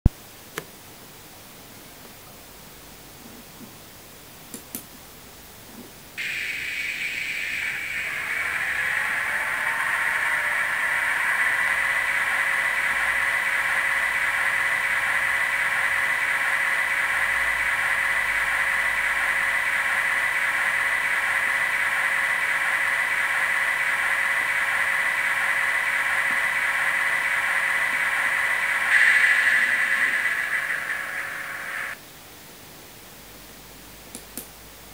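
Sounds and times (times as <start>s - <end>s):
electric train idle hiss and hum: 6.2s - 34.9s.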